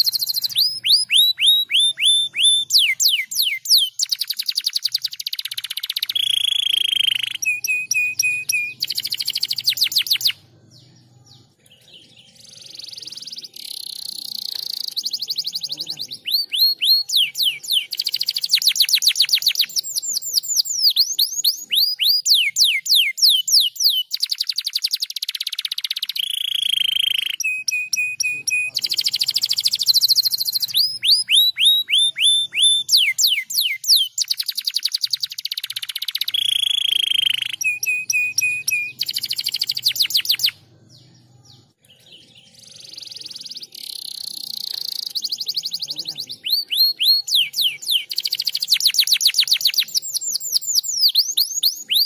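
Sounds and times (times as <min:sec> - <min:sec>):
canary singing: 0:00.0 - 0:52.0.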